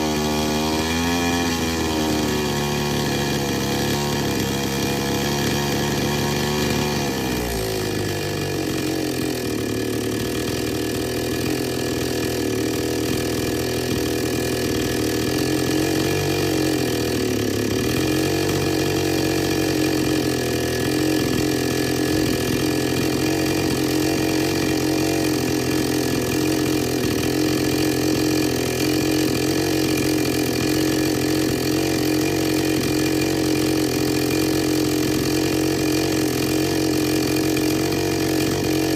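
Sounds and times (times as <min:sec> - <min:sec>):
chainsaw engine idling: 0:00.0 - 0:38.9.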